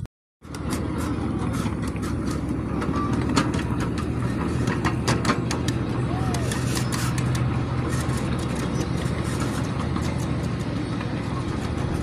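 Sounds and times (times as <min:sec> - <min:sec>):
miniature train rumbling on track: 0:00.4 - 0:12.0
track clicks and knocks: 0:00.5 - 0:12.0.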